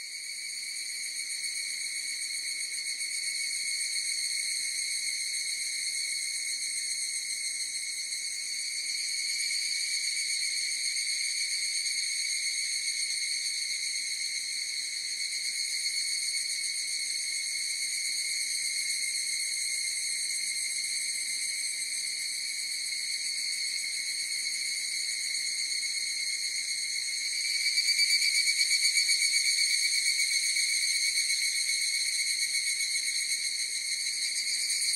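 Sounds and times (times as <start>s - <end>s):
cicadas trilling: 0.0s - 34.9s.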